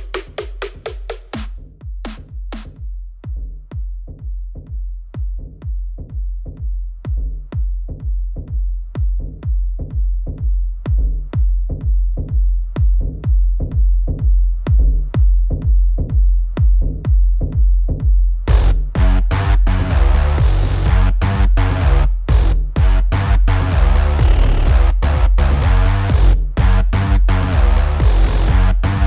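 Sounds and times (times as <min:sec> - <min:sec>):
deep bass: 0:00.0 - 0:29.0
techno kick drum: 0:00.0 - 0:29.0.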